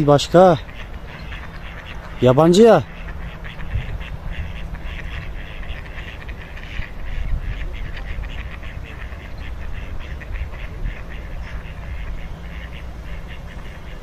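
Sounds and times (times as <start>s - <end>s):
ducks quacking: 0.0s - 14.0s.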